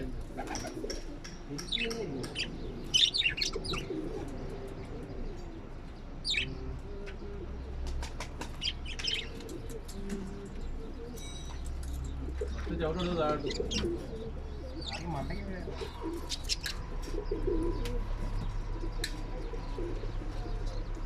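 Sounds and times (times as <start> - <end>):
pigeons cooing: 0.0 - 21.0
small birds chirping: 0.0 - 21.0.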